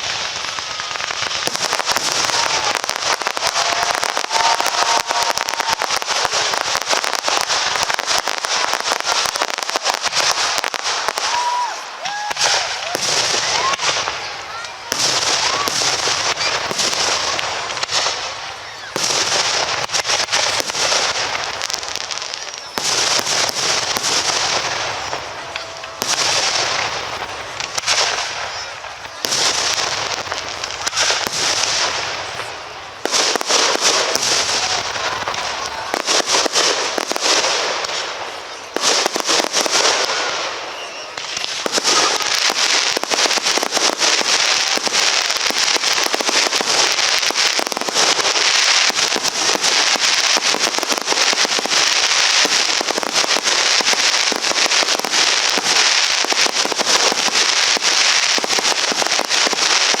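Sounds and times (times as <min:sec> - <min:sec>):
firework crackling: 0:00.0 - 1:00.0
firework shells bursting: 0:00.0 - 1:00.0.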